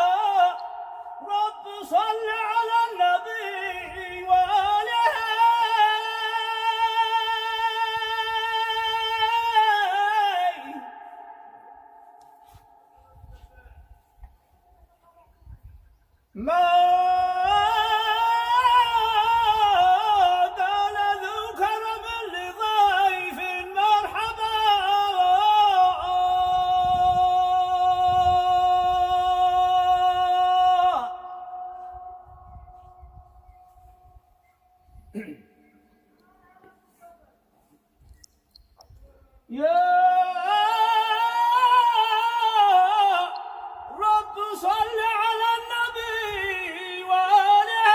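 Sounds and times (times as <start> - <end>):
man chanting: 0.0 - 14.2, 16.4 - 33.4, 39.0 - 47.9.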